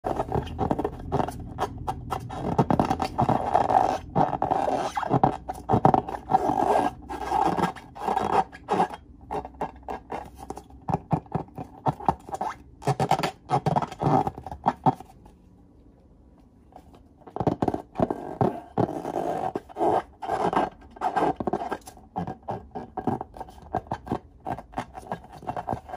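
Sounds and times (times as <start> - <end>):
hands rubbing balloons: 0.0 - 15.3, 17.2 - 25.9.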